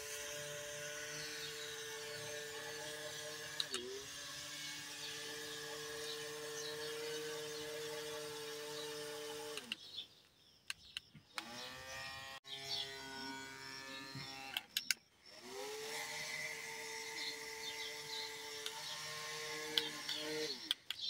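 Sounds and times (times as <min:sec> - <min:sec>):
small electric motor whining: 0:00.0 - 0:09.8, 0:11.3 - 0:21.0.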